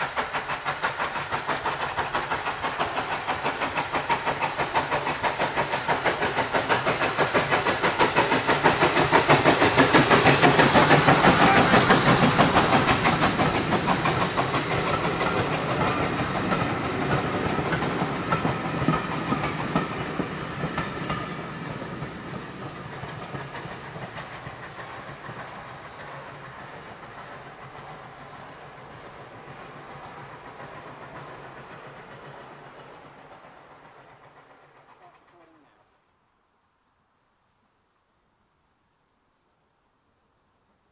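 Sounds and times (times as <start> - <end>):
steam locomotive passing: 0.0 - 37.9.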